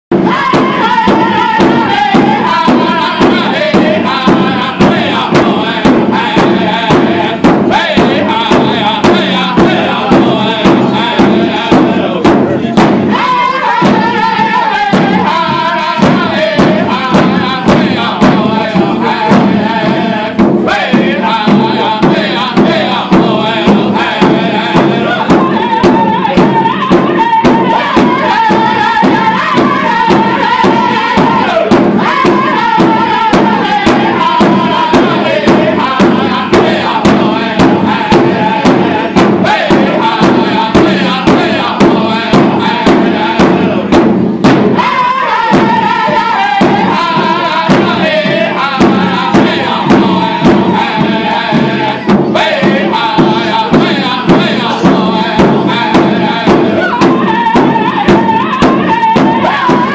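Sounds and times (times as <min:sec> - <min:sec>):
large hand drum beat: 0:00.1 - 0:59.9
voices chanting in unison: 0:00.2 - 0:59.9.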